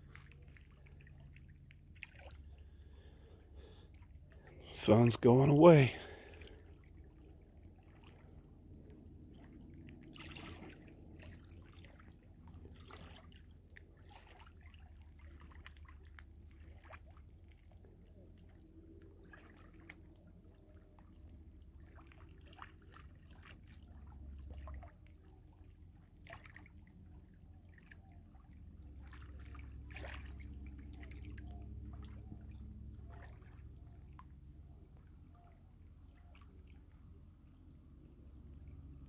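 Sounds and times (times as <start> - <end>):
steady low rumble: 0.0 - 26.1, 26.8 - 39.0
water lapping at rocks: 0.0 - 39.0.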